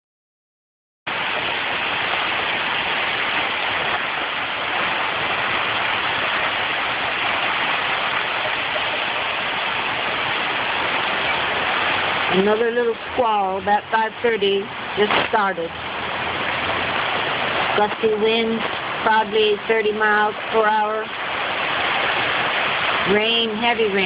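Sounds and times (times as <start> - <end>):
heavy rain: 1.1 - 24.0.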